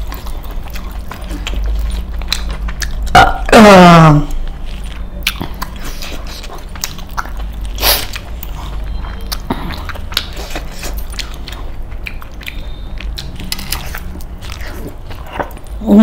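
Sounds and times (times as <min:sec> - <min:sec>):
close chewing and biting: 0:00.0 - 0:16.0.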